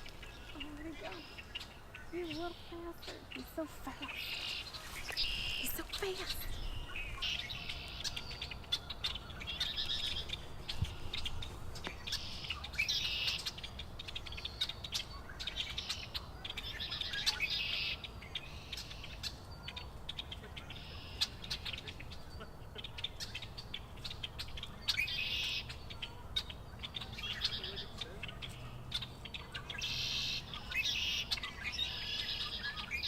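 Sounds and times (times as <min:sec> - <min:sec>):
songbirds buzzy trills: 0:00.0 - 0:33.0.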